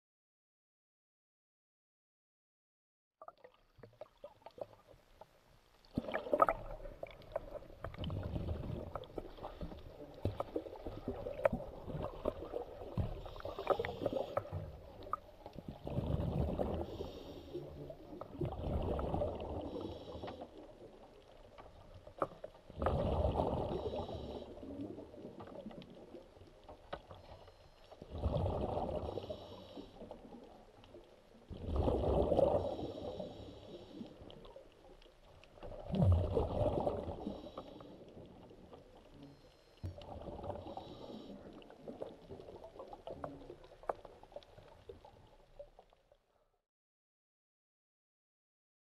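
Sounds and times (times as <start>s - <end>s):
muffled underwater water surging: 3.2s - 46.3s.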